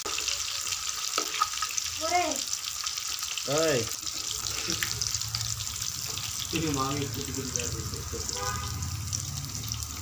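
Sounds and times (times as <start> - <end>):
fish deep-frying in oil: 0.0 - 10.0.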